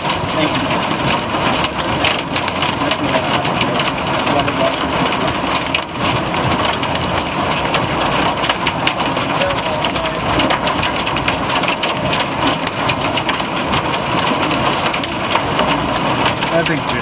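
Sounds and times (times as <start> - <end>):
hailstones clattering: 0.0 - 17.0.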